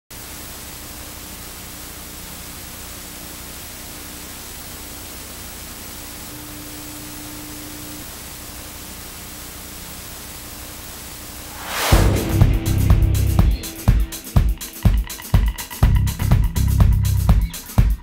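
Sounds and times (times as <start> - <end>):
tv static hiss: 0.1 - 18.0.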